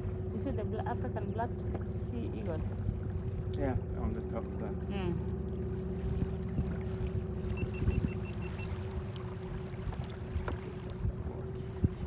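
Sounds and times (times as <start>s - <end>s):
outboard motor running: 0.0s - 12.0s
water around hull: 0.0s - 12.0s.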